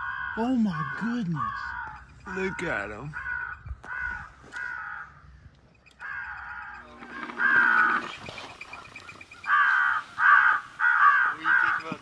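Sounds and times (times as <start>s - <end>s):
crows cawing: 0.0s - 12.0s.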